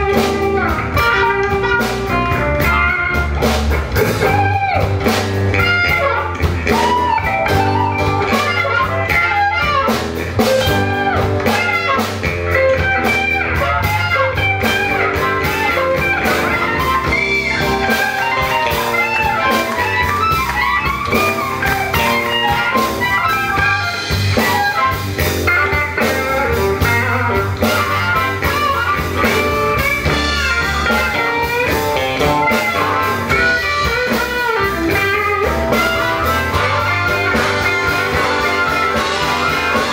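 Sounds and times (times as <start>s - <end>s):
electric guitar: 0.0s - 39.9s
live blues band playing: 0.0s - 39.9s
harmonica: 4.0s - 39.9s.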